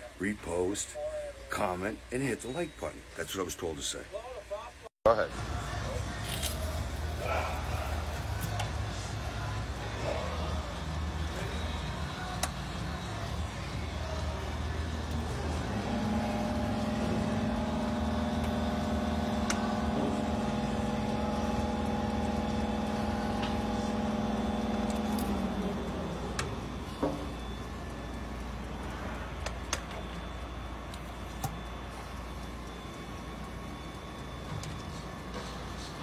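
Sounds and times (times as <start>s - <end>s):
steady machine hum: 0.0s - 36.0s
engine room machinery drone: 5.1s - 36.0s.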